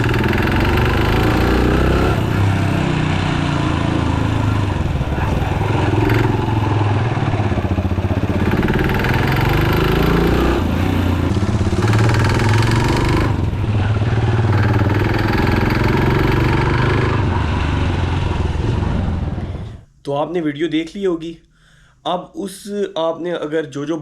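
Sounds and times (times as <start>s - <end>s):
motorcycle engine revving and knocking: 0.0s - 19.4s.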